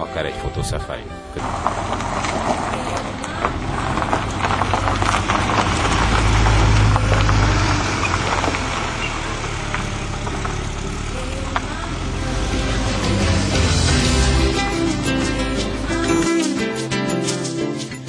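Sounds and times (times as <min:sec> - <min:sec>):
tyres rumbling on dirt: 0:00.0 - 0:17.1
vehicle engine running: 0:01.4 - 0:16.4.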